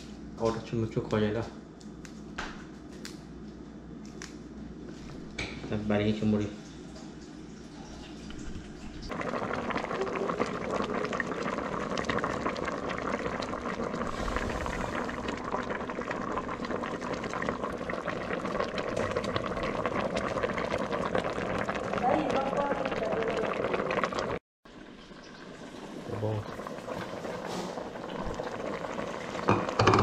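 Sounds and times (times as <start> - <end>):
soup boiling and bubbling: 4.8 - 30.0.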